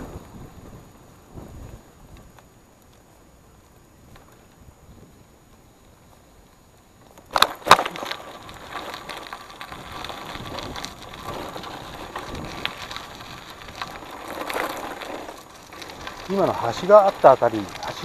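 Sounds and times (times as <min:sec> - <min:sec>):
bicycle tyres crunching on gravel: 0:00.0 - 0:18.0.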